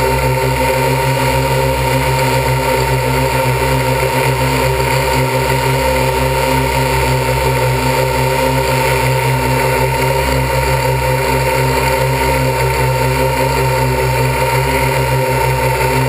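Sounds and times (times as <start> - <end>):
quadcopter motors whirring: 0.0 - 16.0.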